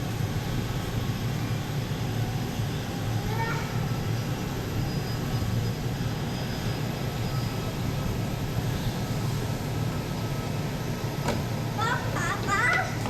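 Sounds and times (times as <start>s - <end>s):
jet engines rumbling and whining: 0.0s - 13.0s.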